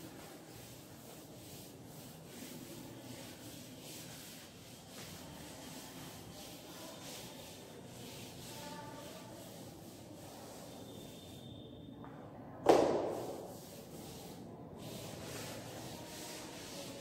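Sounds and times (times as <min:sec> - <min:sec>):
duster wiping chalkboard: 0:00.0 - 0:11.6, 0:12.6 - 0:17.0.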